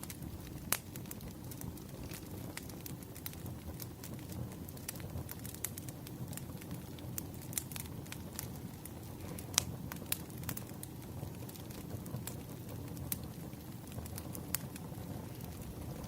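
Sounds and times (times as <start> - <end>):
burning logs rumbling: 0.0 - 16.0
fire popping and snapping: 0.0 - 16.0.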